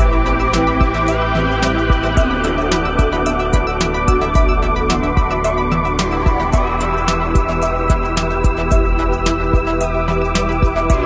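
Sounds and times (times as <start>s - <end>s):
organ-like keyboard chords with beat: 0.0s - 9.9s.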